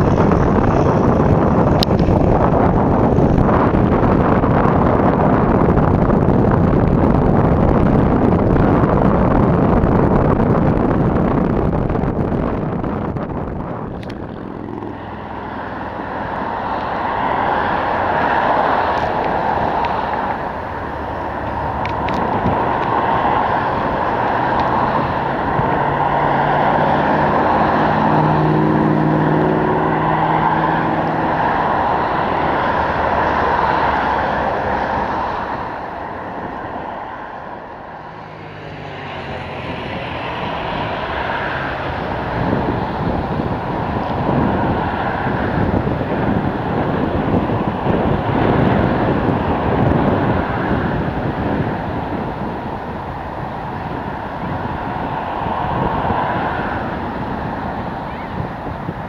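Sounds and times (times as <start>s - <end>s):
aircraft engines running: 0.0s - 59.0s.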